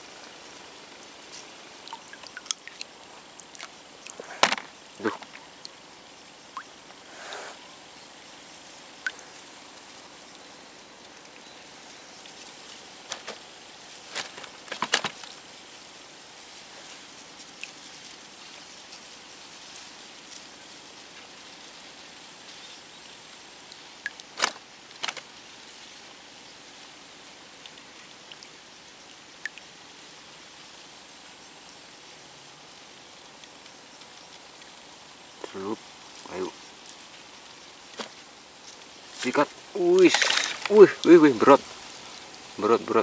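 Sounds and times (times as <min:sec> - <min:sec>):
faint hiss: 0:00.0 - 0:43.0.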